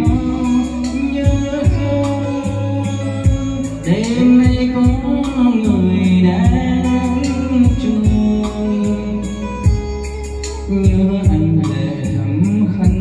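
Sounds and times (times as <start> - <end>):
backing music with beat: 0.0 - 13.0
man singing into microphone: 0.0 - 13.0.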